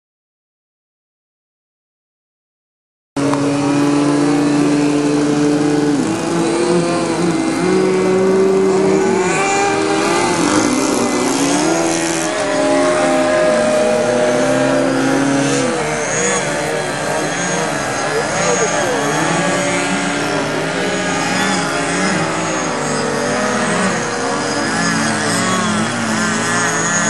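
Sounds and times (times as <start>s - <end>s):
model airplane engines and propellers: 3.2s - 27.0s.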